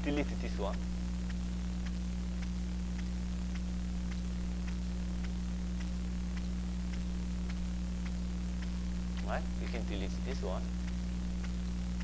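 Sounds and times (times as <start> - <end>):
electrical mains hum: 0.0 - 12.0
faint ticks: 0.0 - 12.0
static hiss: 0.0 - 12.0.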